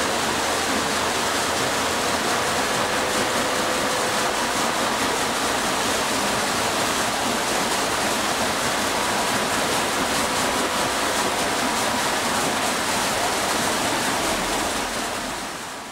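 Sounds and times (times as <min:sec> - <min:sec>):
water splashing off water wheel: 0:00.0 - 0:15.9.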